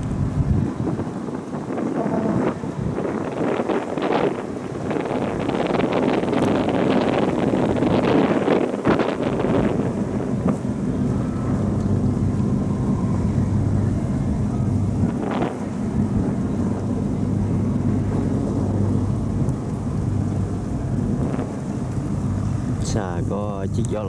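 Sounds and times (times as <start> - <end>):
boat engines droning: 0.0 - 24.0
wind buffeting microphone: 0.0 - 24.0.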